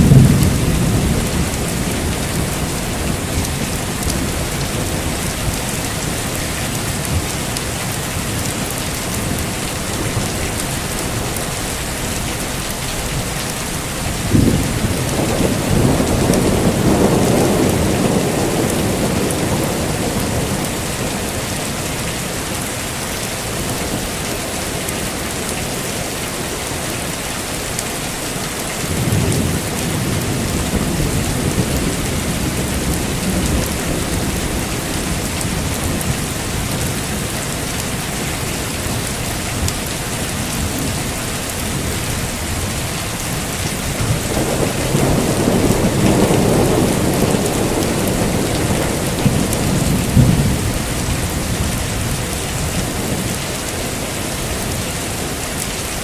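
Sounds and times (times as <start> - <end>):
thunder rumbling: 0.0 - 22.8, 28.8 - 55.4
heavy rain falling: 0.0 - 56.0.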